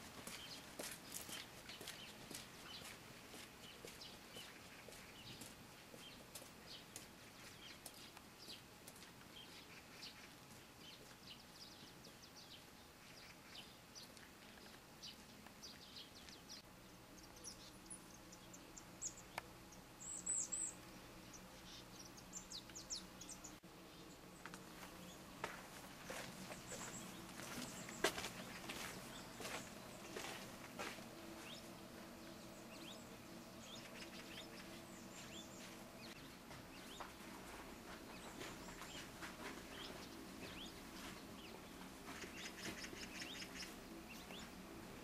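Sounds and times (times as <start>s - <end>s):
low steady hum: 0.0s - 45.0s
small birds chirping: 0.0s - 45.0s.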